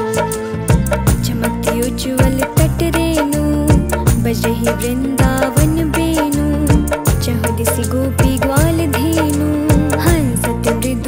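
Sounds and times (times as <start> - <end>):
drum beats: 0.0 - 11.0
woman singing: 0.0 - 11.0.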